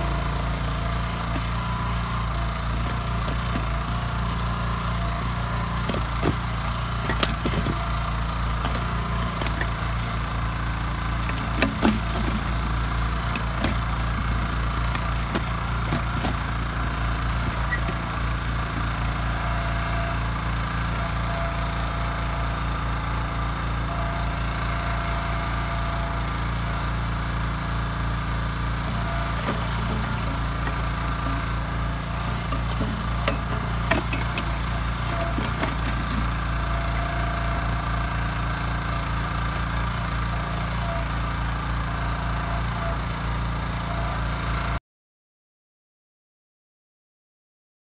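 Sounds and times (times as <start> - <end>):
small engine running: 0.0 - 44.8.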